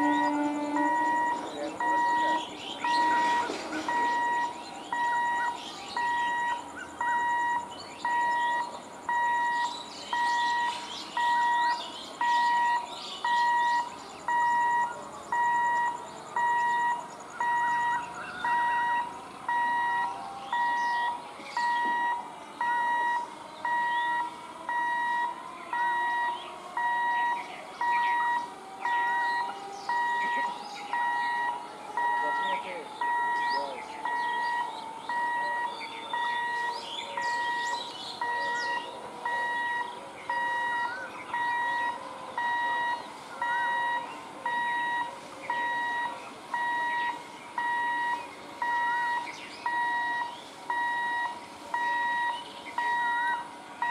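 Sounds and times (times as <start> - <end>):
electronic alarm beeping: 0.0 - 53.9
faint high chirps: 0.0 - 53.9
faint whine: 0.0 - 53.9.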